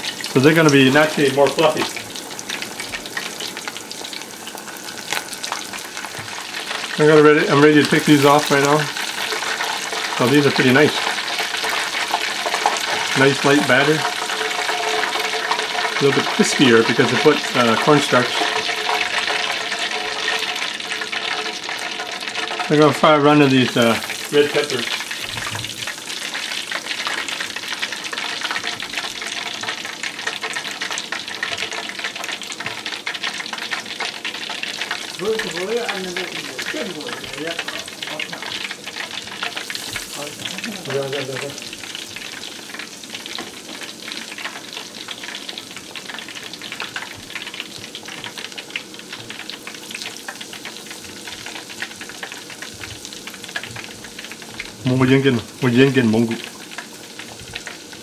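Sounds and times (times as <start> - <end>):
deep-frying sizzle: 0.0 - 58.0.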